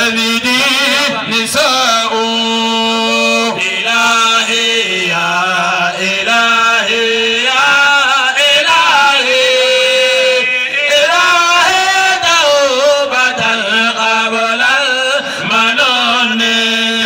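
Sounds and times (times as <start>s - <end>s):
man chanting unaccompanied: 0.0s - 17.0s.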